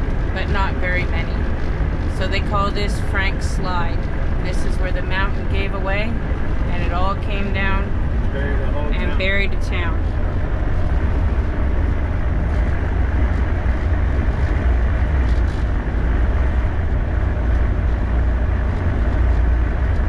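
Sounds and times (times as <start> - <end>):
engine drone and road noise: 0.0 - 20.0.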